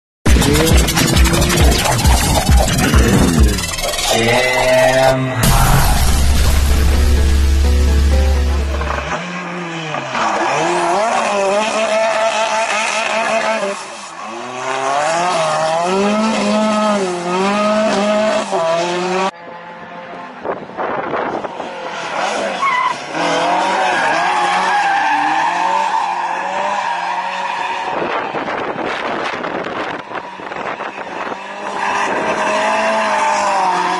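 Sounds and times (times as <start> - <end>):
rally car engines revving: 0.3 - 33.9.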